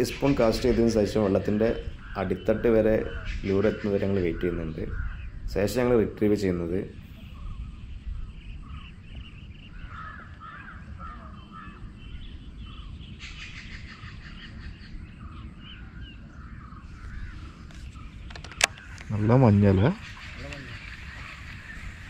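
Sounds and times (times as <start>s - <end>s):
birds chirping and calling: 0.0s - 22.0s
steady low rumble: 0.0s - 22.0s.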